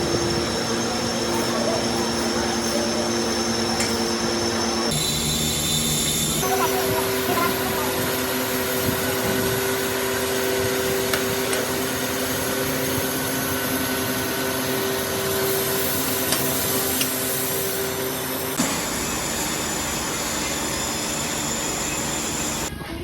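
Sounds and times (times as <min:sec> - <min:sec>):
workshop machinery humming: 0:00.0 - 0:22.8.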